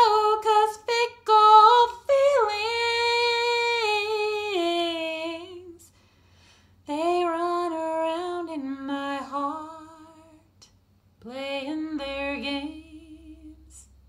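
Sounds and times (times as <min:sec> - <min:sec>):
woman singing unaccompanied: 0:00.0 - 0:05.9, 0:06.9 - 0:10.6, 0:11.2 - 0:13.9.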